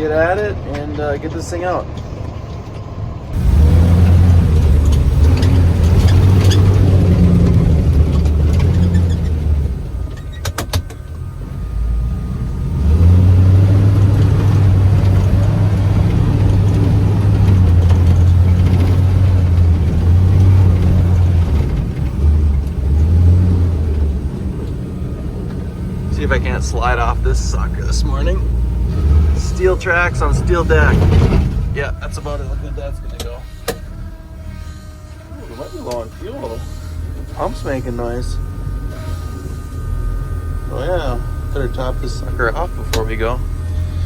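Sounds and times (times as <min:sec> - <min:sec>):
vehicle engine droning: 0:00.0 - 0:44.0.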